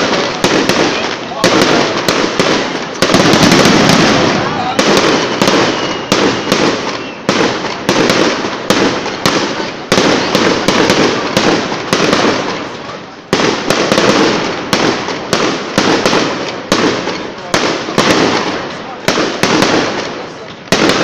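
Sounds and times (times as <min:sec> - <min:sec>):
firework crackle: 0:00.0 - 0:21.0
firework shells bursting: 0:00.0 - 0:21.0.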